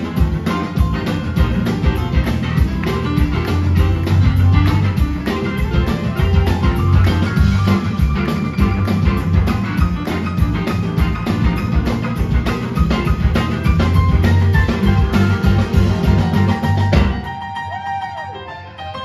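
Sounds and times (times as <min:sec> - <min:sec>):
blues-rock band playing: 0:00.0 - 0:19.0.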